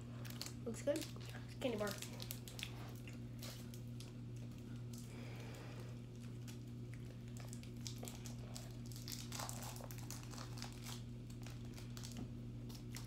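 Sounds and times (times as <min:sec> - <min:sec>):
plastic wrapper crinkling: 0:00.2 - 0:05.1, 0:06.1 - 0:13.0.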